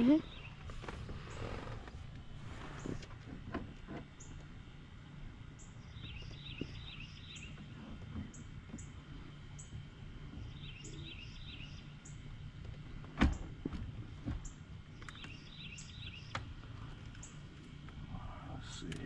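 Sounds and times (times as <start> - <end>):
birds chirping: 0.0 - 3.1, 4.1 - 13.5, 14.2 - 19.0
low steady hum: 0.0 - 19.0.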